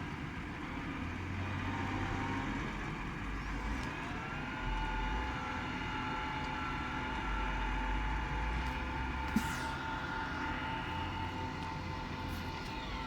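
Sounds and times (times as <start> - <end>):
constant whine: 0.0 - 13.0
tractor engine running: 0.0 - 13.0.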